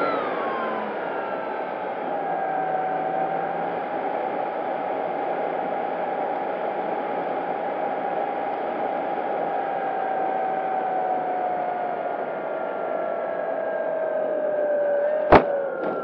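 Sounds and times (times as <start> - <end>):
electric motor and propeller whine: 0.0 - 16.0.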